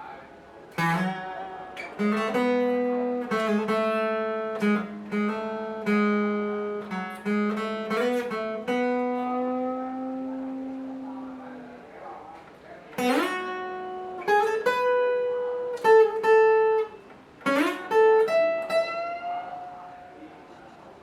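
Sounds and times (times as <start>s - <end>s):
acoustic guitar solo melody: 0.0s - 21.0s.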